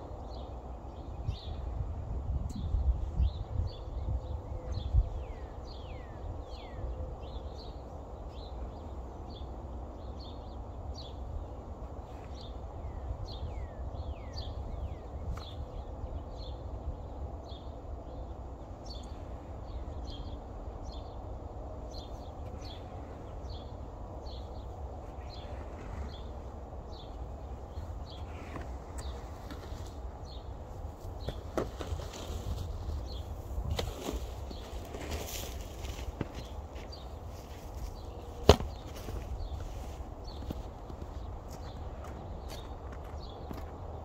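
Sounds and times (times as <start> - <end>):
small birds chirping: 0.0 - 1.8, 2.4 - 44.0.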